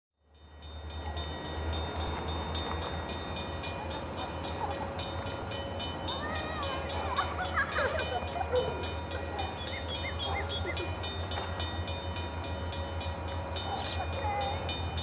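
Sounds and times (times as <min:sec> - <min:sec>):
distant diesel locomotive rumble: 0:00.2 - 0:15.0.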